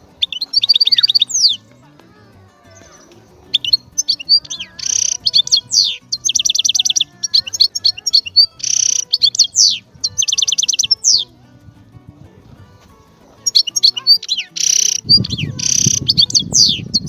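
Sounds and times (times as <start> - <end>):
finch singing: 0.0 - 11.4, 13.2 - 17.0.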